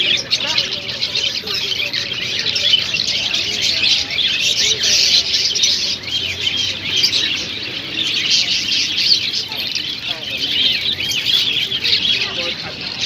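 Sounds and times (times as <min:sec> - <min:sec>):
small birds chirping and twittering: 0:00.0 - 0:13.0.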